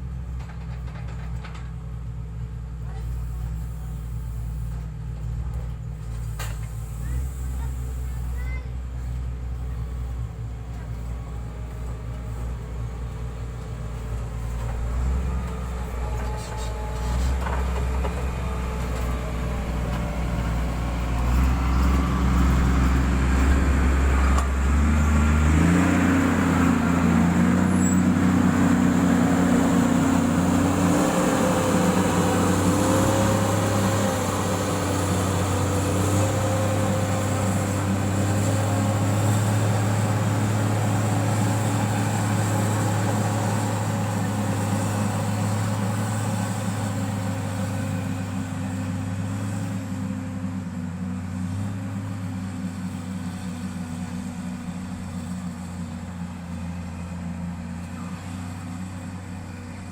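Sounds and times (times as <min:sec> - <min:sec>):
grader diesel engine running: 0:00.0 - 0:59.9.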